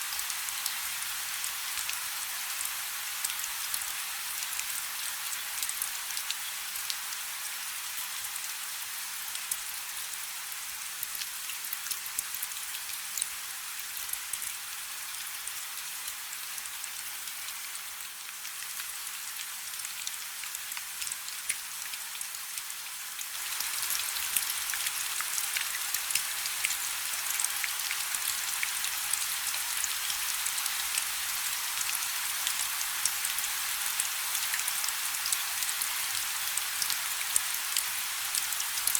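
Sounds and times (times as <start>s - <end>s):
rain falling on a river: 0.0s - 38.9s.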